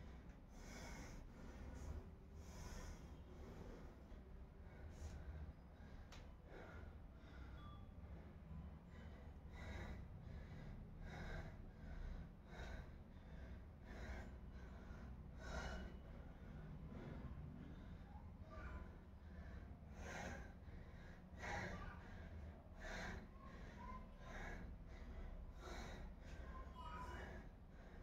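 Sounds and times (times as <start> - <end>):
person breathing hard: 0.0 - 28.0.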